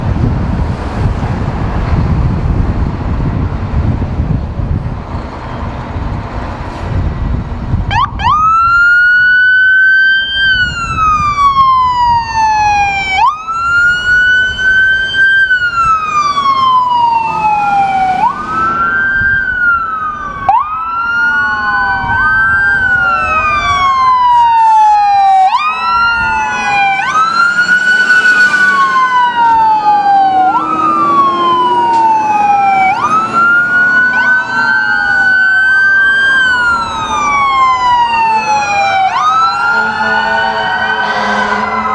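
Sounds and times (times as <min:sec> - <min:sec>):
emergency sirens wailing: 0:00.0 - 0:41.9.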